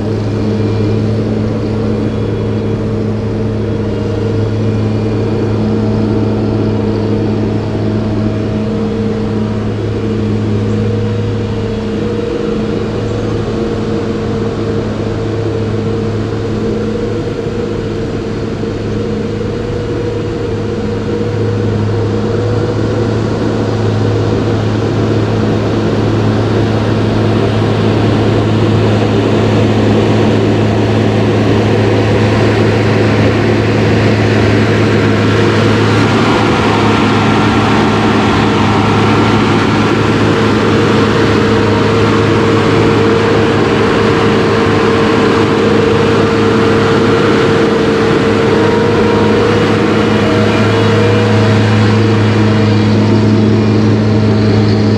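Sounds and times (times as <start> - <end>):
engine droning hum: 0.0 - 54.9.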